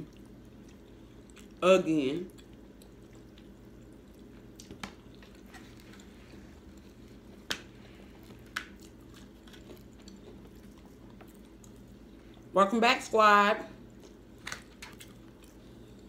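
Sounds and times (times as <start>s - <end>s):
chewing food: 0.0s - 12.5s, 13.8s - 16.0s
low steady hum: 0.0s - 16.0s.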